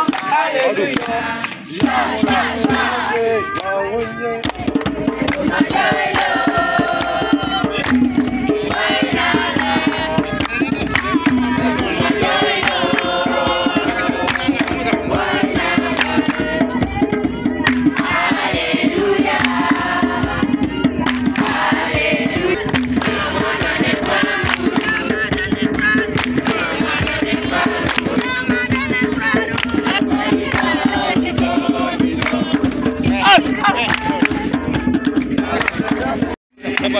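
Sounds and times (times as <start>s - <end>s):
group of voices singing: 0.0s - 36.9s
hand-drum percussion: 0.0s - 36.9s.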